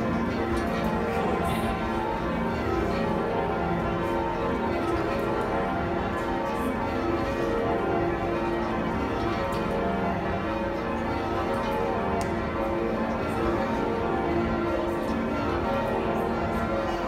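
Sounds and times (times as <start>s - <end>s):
church bells ringing in peal: 0.0s - 17.0s.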